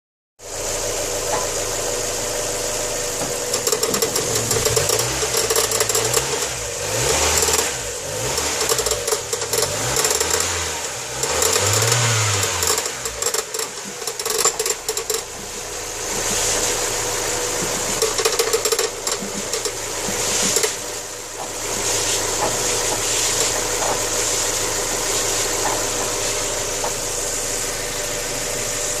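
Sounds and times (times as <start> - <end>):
car engine revving and idling: 0.4 - 29.0
metallic engine noise: 0.7 - 29.0.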